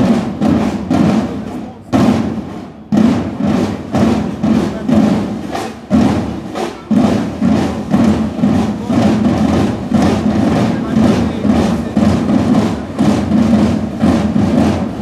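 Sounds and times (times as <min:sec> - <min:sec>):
marching drums beating: 0:00.0 - 0:15.0.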